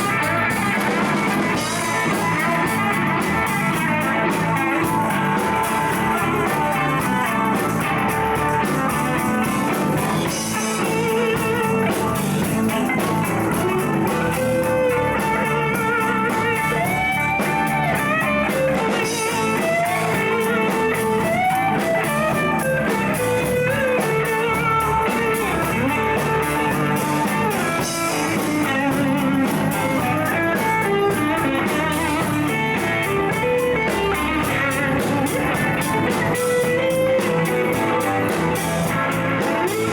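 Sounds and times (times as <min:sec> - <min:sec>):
blues-rock band playing: 0:00.0 - 0:39.9
electric guitar lead: 0:00.0 - 0:39.9.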